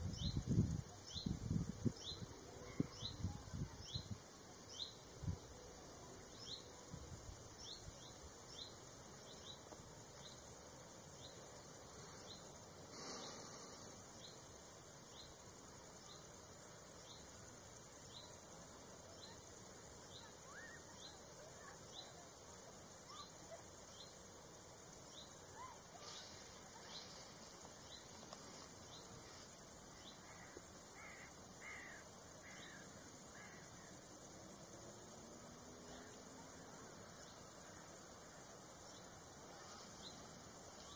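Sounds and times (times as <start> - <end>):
crickets high-pitched buzz: 0.0 - 40.9.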